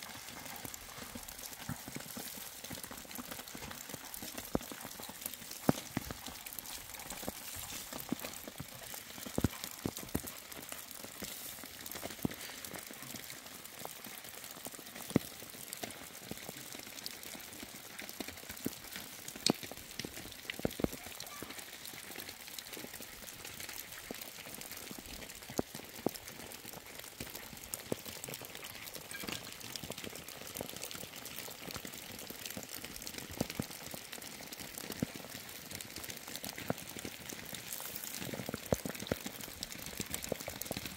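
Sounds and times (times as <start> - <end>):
steady rain on wet ground: 0.0 - 40.9.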